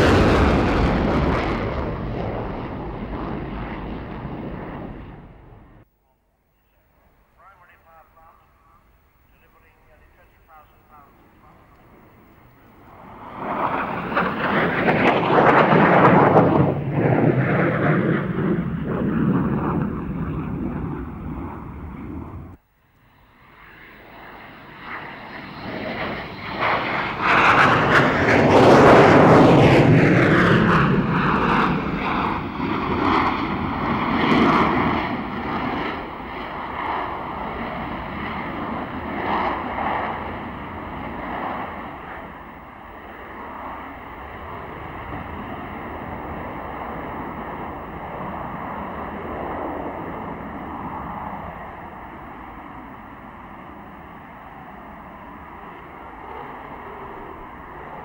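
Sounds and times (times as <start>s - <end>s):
whoosh of aircraft passing: 0.0s - 5.8s, 12.7s - 58.0s
loud jet engine noise: 0.0s - 5.9s, 9.4s - 58.0s.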